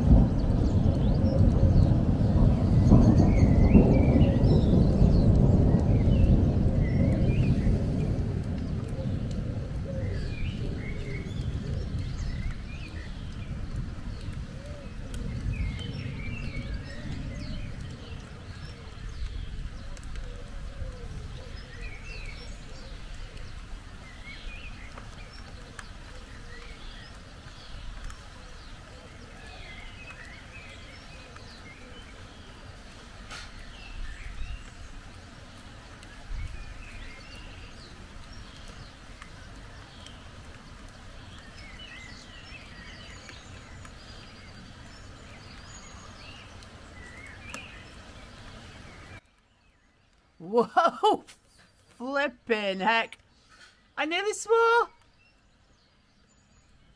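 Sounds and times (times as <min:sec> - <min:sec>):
low rumble of thunder: 0:00.0 - 0:49.2
small birds chirping: 0:00.0 - 0:56.9.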